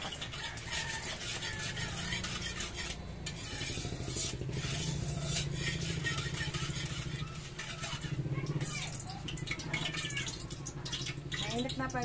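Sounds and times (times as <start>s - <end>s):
oil sizzling: 0.0s - 12.0s
utensil scraping frying pan: 0.0s - 12.0s.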